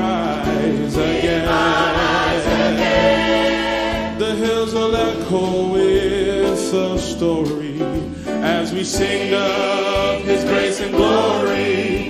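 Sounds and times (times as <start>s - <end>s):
gospel choir singing: 0.0s - 7.0s, 8.3s - 12.0s.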